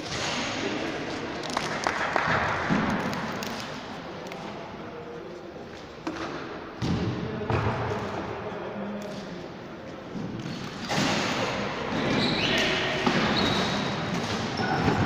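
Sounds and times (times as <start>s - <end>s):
crowd noise in a gym: 0.0s - 15.0s.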